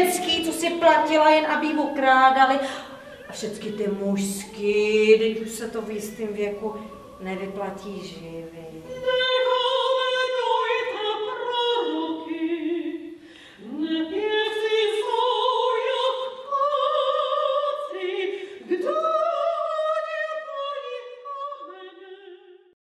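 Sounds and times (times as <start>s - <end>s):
woman singing opera: 0.0s - 22.8s.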